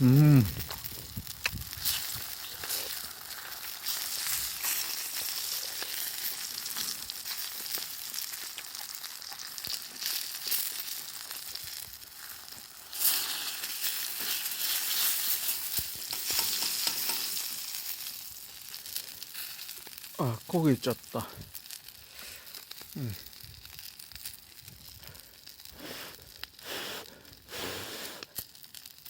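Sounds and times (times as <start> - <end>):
meat sizzling over campfire: 0.0 - 29.0.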